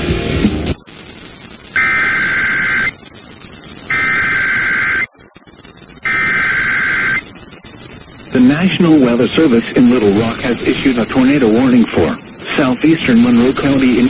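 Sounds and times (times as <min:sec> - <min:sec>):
two-tone digital data bursts: 0:00.9 - 0:14.0.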